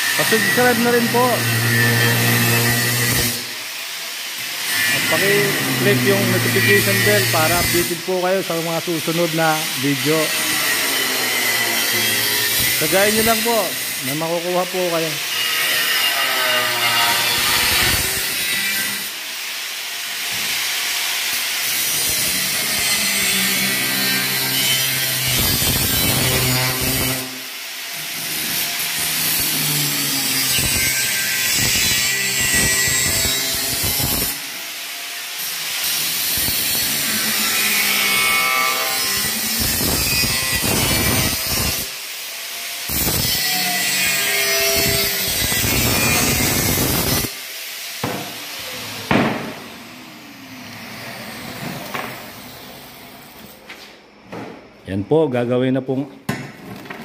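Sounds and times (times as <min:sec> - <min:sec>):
angle grinder cutting metal: 0:00.0 - 0:53.6.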